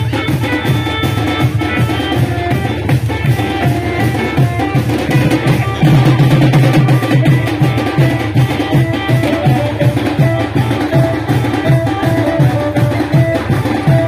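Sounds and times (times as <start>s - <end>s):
band drums beating fast rhythm: 0.0s - 14.0s
melody of held notes: 0.0s - 14.0s.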